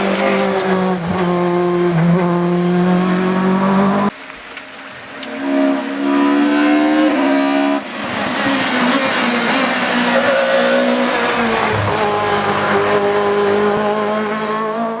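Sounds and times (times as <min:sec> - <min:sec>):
racing car engine at hard throttle: 0:00.0 - 0:04.2, 0:05.0 - 0:15.0.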